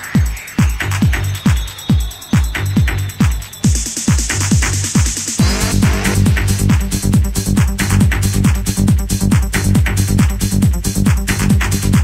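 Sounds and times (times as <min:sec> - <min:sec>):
ticking hi-hats: 0:00.0 - 0:12.0
kick drum thuds: 0:00.2 - 0:12.0.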